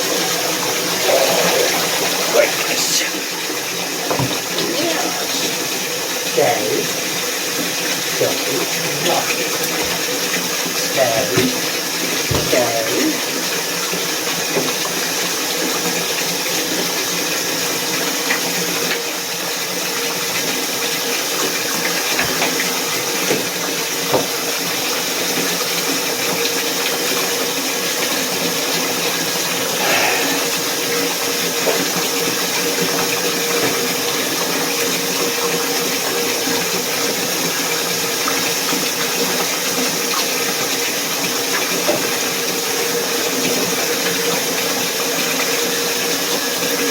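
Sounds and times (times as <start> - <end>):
water running: 0.0 - 46.9.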